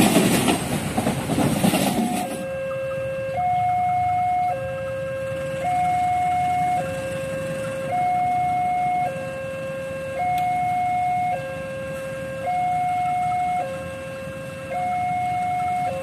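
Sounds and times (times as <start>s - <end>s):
level crossing two-tone alarm: 1.9s - 16.0s.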